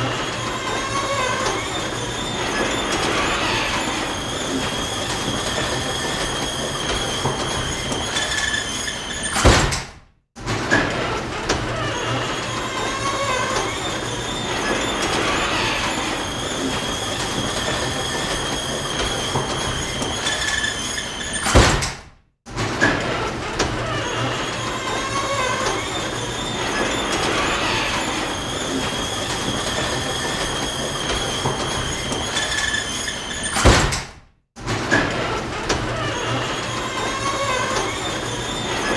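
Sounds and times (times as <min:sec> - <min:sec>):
garage door rolling rumble: 0:00.0 - 0:38.9.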